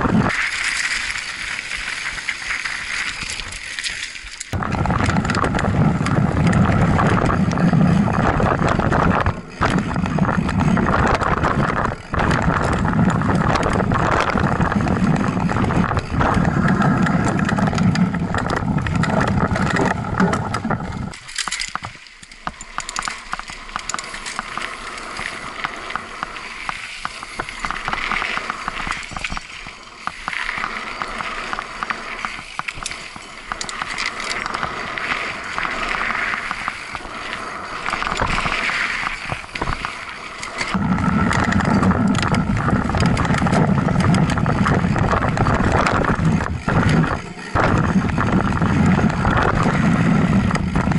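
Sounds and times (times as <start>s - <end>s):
rumbling and buffeting on camera: 0.0s - 50.9s
tyres rolling over wet gravel: 0.0s - 50.9s.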